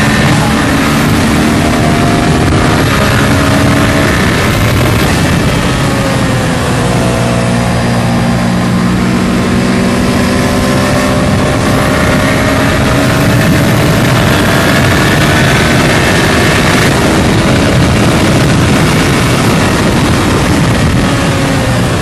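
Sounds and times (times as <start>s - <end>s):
motorcycle engine running hard: 0.0s - 22.0s
wind rush on microphone: 0.0s - 22.0s.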